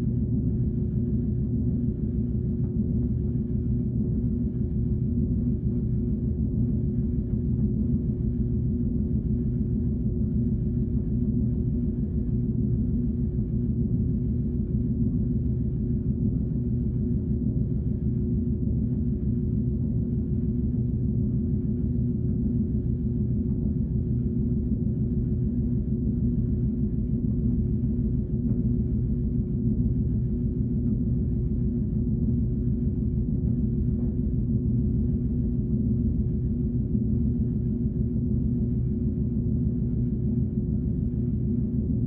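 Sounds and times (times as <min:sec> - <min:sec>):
low humming drone: 0:00.0 - 0:42.0.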